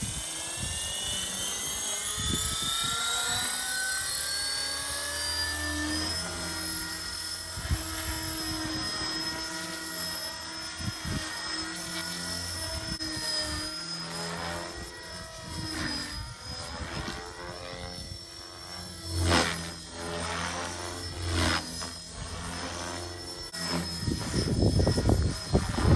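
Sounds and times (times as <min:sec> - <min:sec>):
rc helicopter motor whine: 0:00.0 - 0:25.9.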